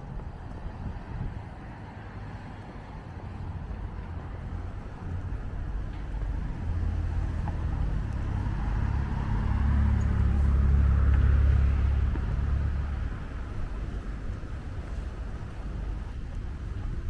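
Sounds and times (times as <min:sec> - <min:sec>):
car passing by: 0:00.0 - 0:17.0.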